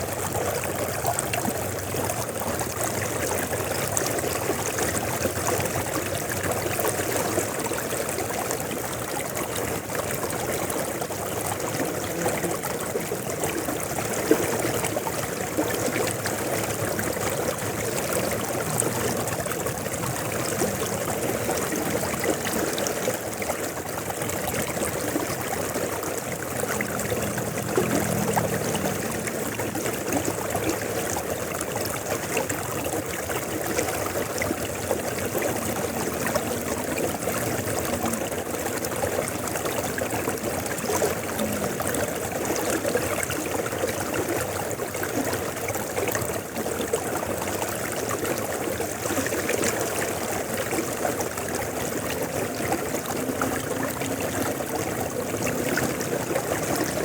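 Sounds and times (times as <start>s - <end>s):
river water flowing and splashing: 0.0s - 57.0s.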